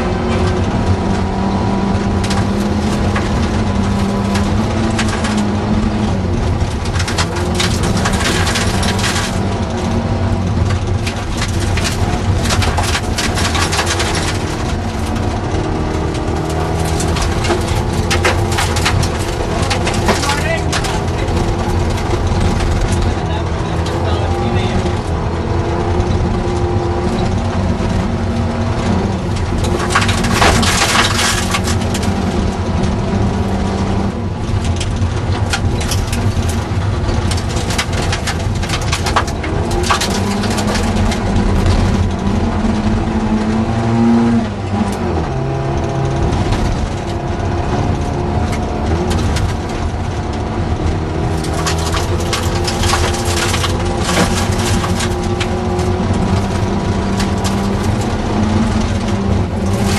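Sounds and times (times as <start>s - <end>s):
gravel rattling on underbody: 0.0s - 59.9s
rally car engine revving: 0.0s - 59.9s.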